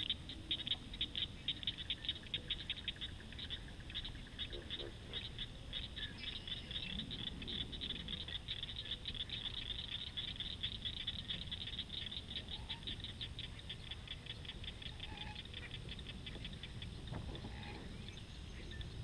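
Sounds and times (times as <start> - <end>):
animal calling with rapid clicks: 0.0 - 17.8.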